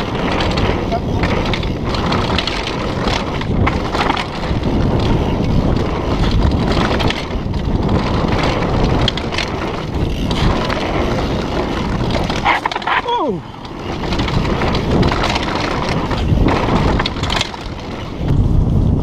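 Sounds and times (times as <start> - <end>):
tyres rumbling over dirt: 0.0 - 18.5
bike rattling over bumps: 0.0 - 19.0
wind on microphone: 0.0 - 19.0.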